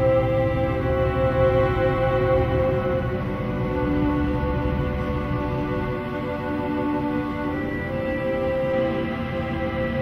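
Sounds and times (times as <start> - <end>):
music of long held notes: 0.0 - 10.0.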